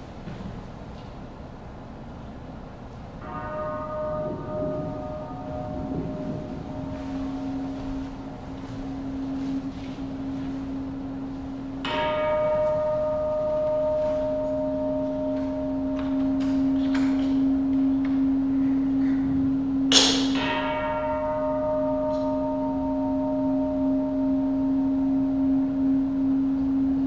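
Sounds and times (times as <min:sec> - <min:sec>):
bowl bell ringing: 0:03.2 - 0:27.0
low hum: 0:03.2 - 0:27.0.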